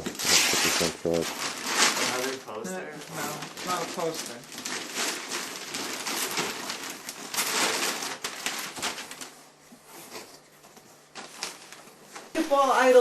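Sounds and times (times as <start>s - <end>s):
wrapping paper rustling and tearing: 0.0s - 10.3s, 11.1s - 12.5s.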